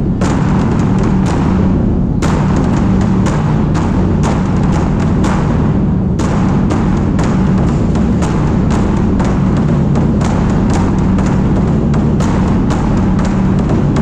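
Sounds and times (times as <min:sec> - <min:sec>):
large drums beaten together: 0:00.0 - 0:14.0.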